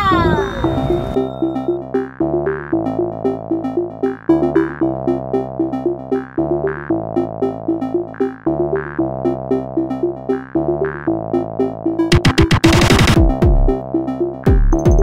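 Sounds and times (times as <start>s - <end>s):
electronic keyboard tune: 0.0s - 15.0s.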